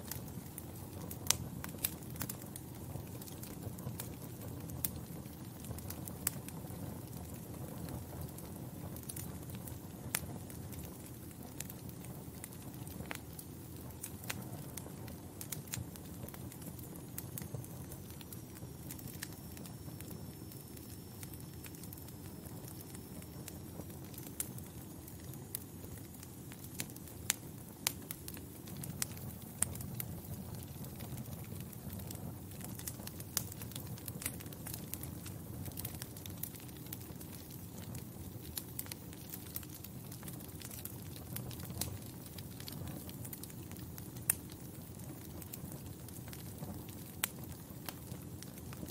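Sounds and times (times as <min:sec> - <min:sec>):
fire popping and snapping: 0:00.0 - 0:48.9
fire rumbling: 0:00.0 - 0:48.9.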